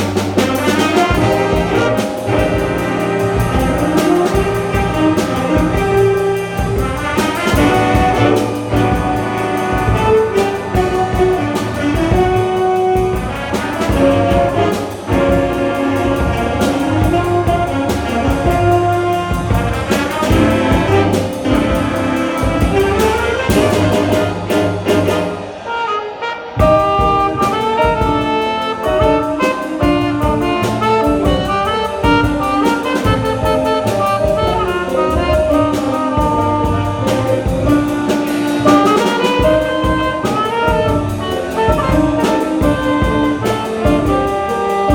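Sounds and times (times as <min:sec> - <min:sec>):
jazz band playing: 0:00.0 - 0:44.9.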